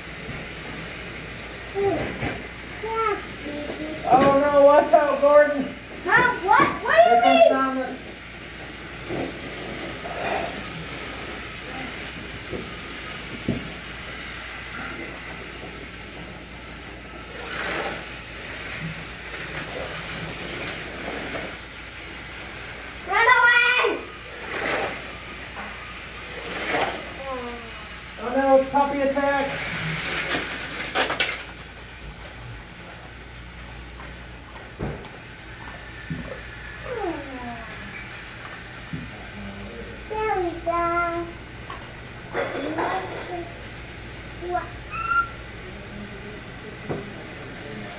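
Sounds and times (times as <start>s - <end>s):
toy train motor whirring: 0.0s - 33.1s, 33.7s - 45.4s.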